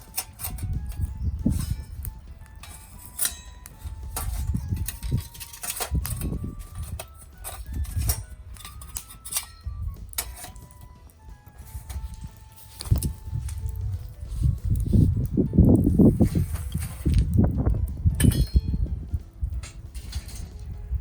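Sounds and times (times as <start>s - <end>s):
metal clanks and knocks: 0.0s - 14.0s, 16.1s - 21.0s
faint background music: 0.0s - 21.0s.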